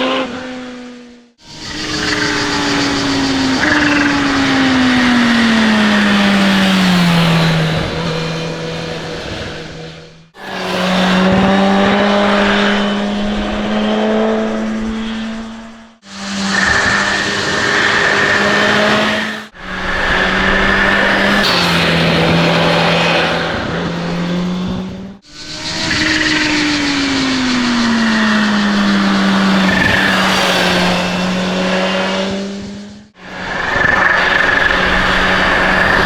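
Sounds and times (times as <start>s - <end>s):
high supercharger whine: 0.0s - 36.0s
motorcycle engine running: 1.1s - 36.0s.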